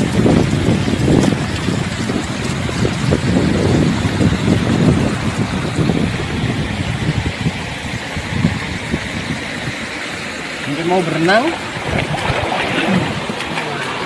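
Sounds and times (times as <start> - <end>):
river water rushing and lapping: 0.0 - 14.0
wind buffeting microphone: 0.0 - 14.0.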